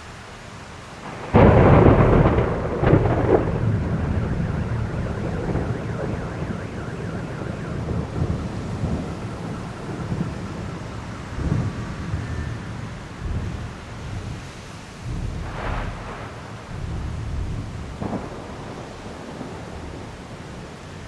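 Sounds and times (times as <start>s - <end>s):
heavy rain hissing: 0.0s - 21.0s
thunder cracks: 1.0s - 20.8s
thunder rumbling: 1.0s - 21.0s.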